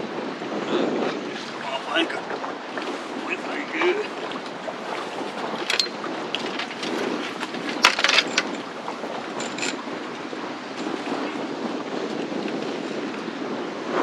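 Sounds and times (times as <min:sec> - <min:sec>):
choppy water rushing: 0:00.0 - 0:14.0
strong wind: 0:00.0 - 0:14.0.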